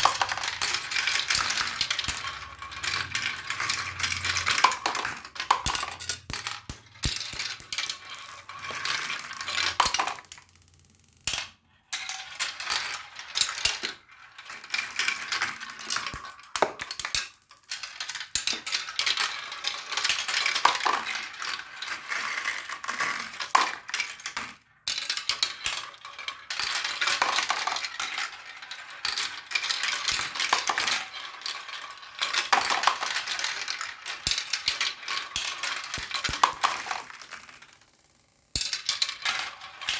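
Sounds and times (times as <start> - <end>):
marbles clattering down a track: 0.0 - 39.9.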